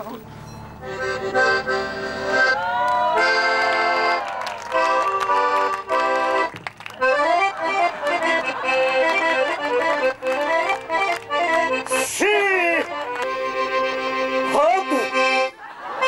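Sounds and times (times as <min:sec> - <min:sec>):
instrumental band music: 0:00.7 - 0:02.6, 0:04.8 - 0:16.0.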